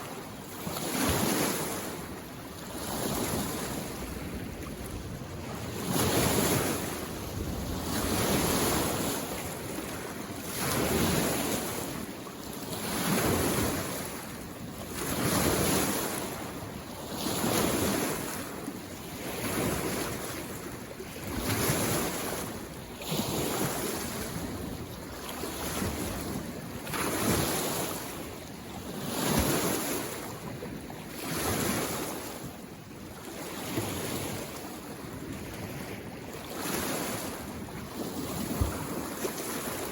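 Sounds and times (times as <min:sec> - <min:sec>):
lake waves washing onto shore: 0:00.0 - 0:39.9.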